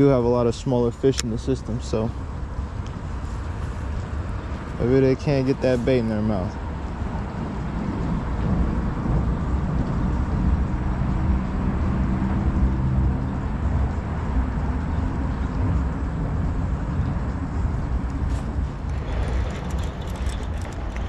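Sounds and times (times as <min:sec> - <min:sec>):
distant traffic rumble: 0:00.0 - 0:21.0.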